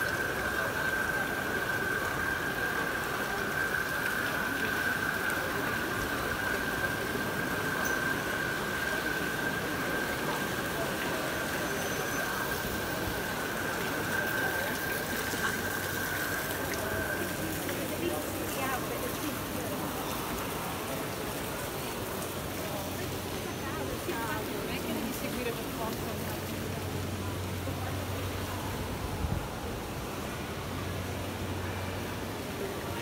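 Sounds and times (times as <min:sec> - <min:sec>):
fountain water splashing: 0:00.0 - 0:33.0.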